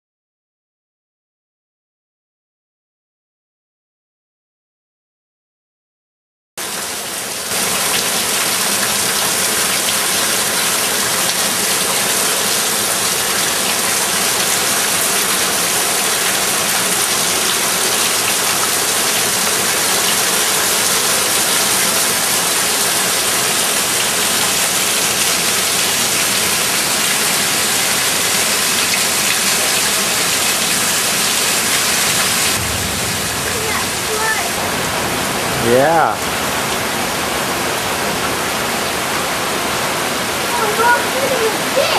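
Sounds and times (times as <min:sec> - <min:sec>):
heavy rain pouring: 0:06.6 - 0:41.9.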